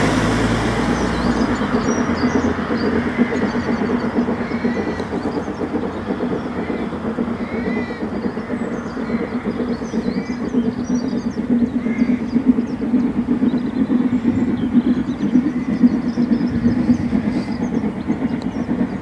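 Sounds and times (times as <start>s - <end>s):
birds chirping: 0.0s - 19.0s
train rumbling: 0.0s - 19.0s.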